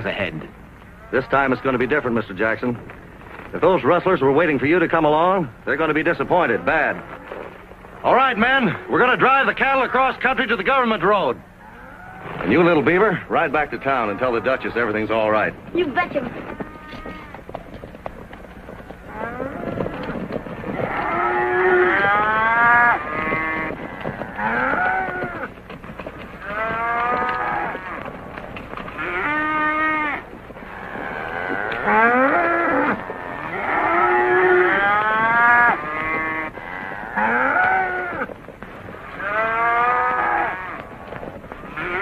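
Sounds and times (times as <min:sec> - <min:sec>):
low hum: 0:00.0 - 0:42.0
cattle mooing: 0:00.9 - 0:02.2, 0:05.9 - 0:10.2, 0:11.5 - 0:17.5, 0:18.5 - 0:25.6, 0:26.2 - 0:42.0.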